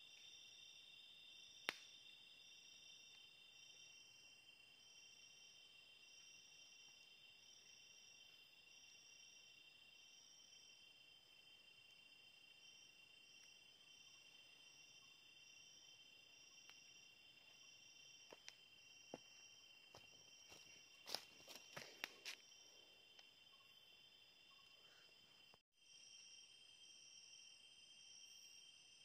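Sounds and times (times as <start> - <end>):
night insects trilling: 0.0 - 29.0.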